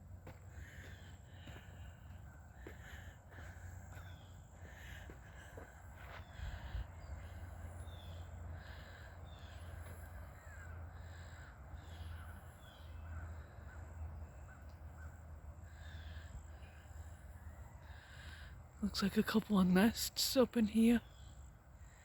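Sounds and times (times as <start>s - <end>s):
birds calling: 0.0s - 19.6s.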